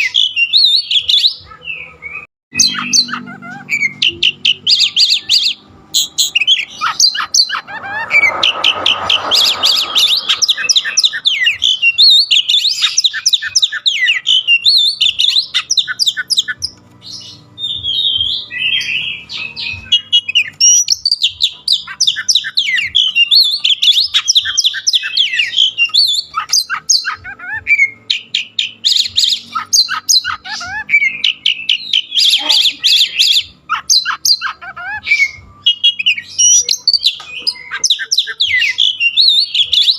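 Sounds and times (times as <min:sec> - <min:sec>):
bird singing varied chirps: 0:00.0 - 0:39.9.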